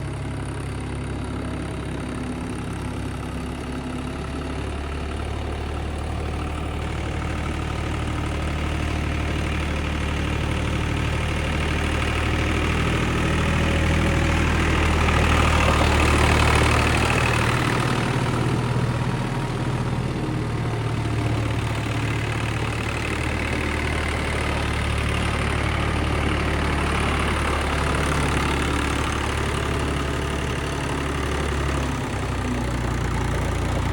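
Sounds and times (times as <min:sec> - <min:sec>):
tractor diesel engine idling: 0:00.0 - 0:33.9.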